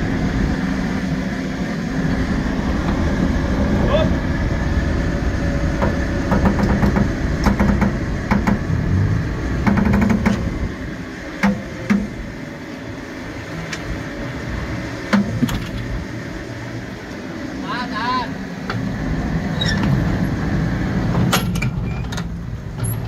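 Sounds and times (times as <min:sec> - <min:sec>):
excavator diesel engine under load: 0:00.0 - 0:17.6, 0:18.3 - 0:23.0.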